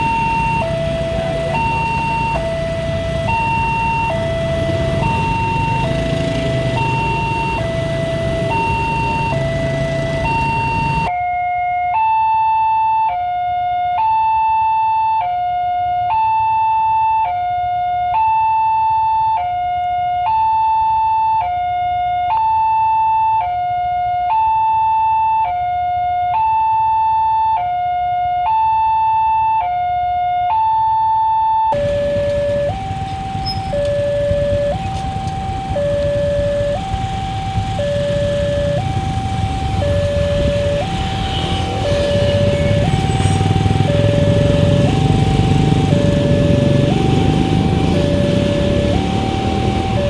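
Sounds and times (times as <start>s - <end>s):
level crossing two-tone siren: 0.0s - 50.0s.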